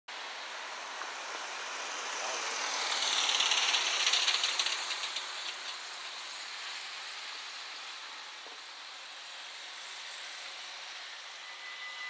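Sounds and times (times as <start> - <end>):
tyres hissing on road: 0.1 - 12.0
van passing by: 0.1 - 12.0.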